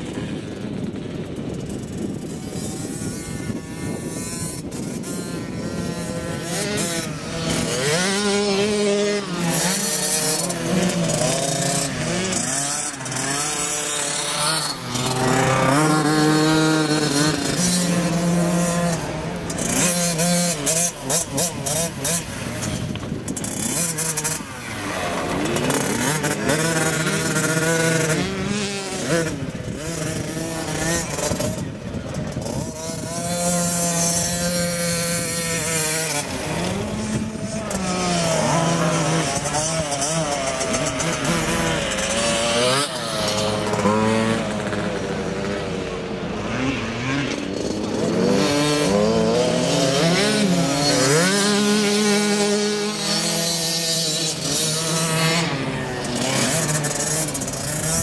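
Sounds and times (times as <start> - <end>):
two-stroke motocross bike revving: 0.0 - 58.0.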